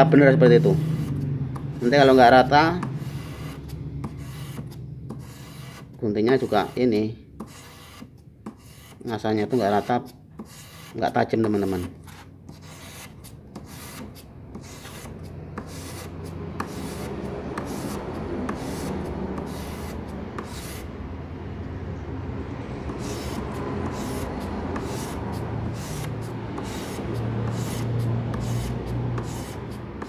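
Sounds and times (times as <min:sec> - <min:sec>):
scissor blades scraping sandpaper: 0:01.8 - 0:20.9, 0:22.9 - 0:30.0.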